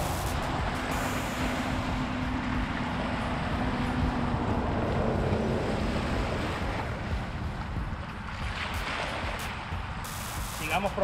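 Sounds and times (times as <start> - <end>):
wind buffeting microphone: 0.4 - 10.1.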